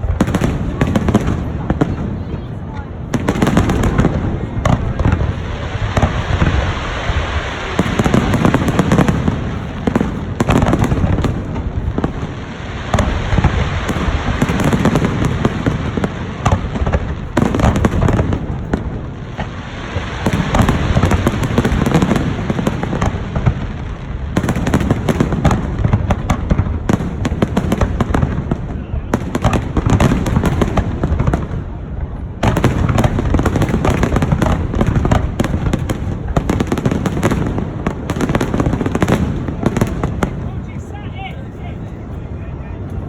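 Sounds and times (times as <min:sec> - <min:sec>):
fireworks booming and crackling: 0:00.0 - 0:43.0.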